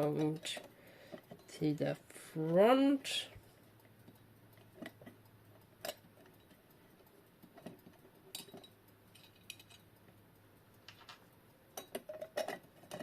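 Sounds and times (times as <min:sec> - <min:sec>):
small metal parts clicking: 0:00.0 - 0:01.7, 0:02.5 - 0:13.0.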